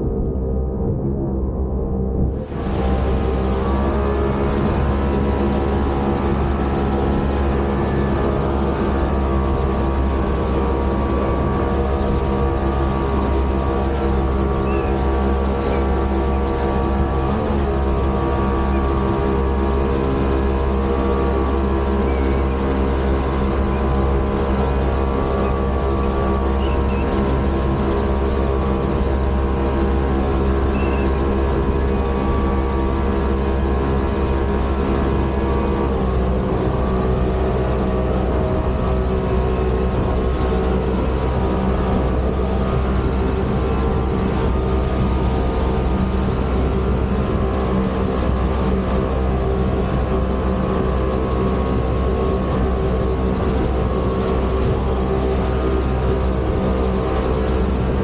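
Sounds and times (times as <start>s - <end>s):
motorboat engine running: 0.0s - 58.0s
water rushing along hull: 0.0s - 58.0s.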